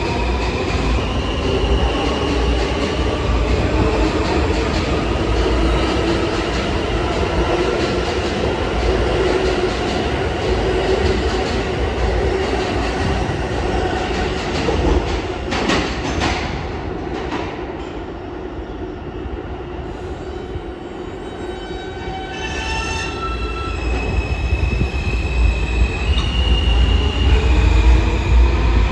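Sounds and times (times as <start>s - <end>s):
subway train rumbling on rails: 0.0s - 28.9s.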